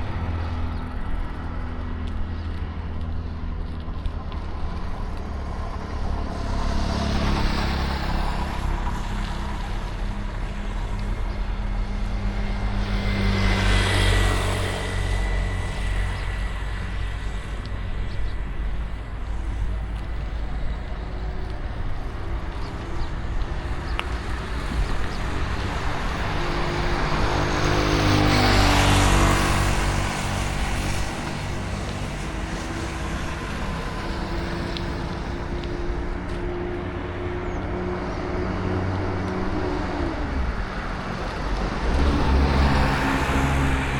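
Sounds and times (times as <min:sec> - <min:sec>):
traffic low rumble: 0:00.0 - 0:43.9
vehicles passing close by: 0:00.0 - 0:43.9.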